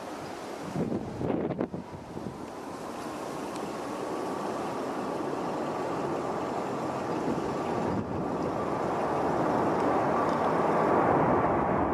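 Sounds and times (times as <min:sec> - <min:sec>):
jet engines roaring: 0:00.0 - 0:11.9.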